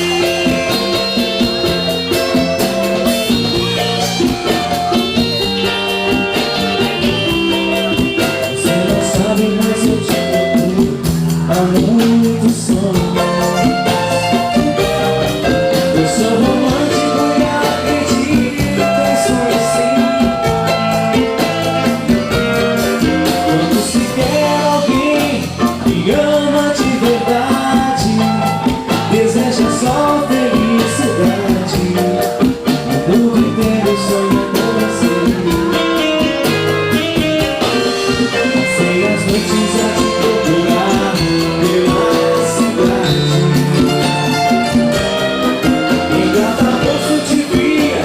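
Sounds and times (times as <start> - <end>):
live band music: 0.0 - 48.0
steady drum beat: 0.0 - 48.0.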